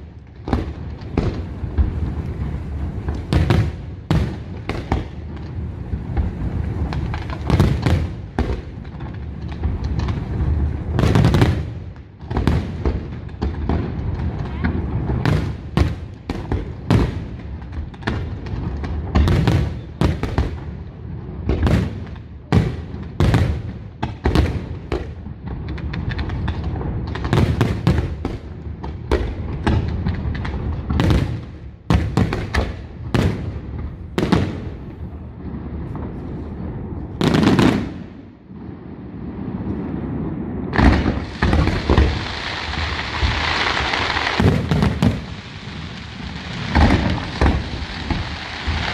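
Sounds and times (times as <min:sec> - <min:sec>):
fireworks crackling: 0:00.0 - 0:48.9.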